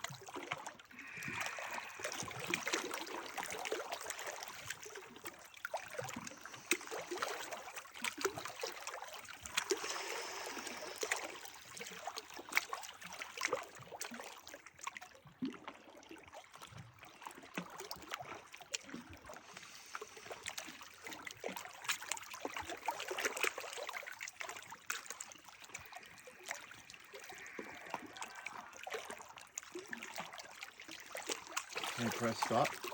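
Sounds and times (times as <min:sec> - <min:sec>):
stream trickling and gurgling: 0:00.0 - 0:32.9.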